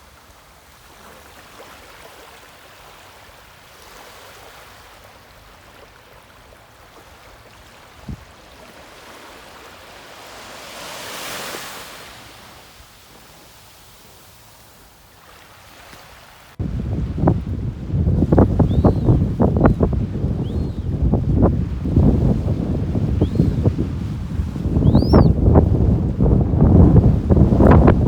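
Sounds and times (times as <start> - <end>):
ocean waves washing on shore: 0.0 - 28.0.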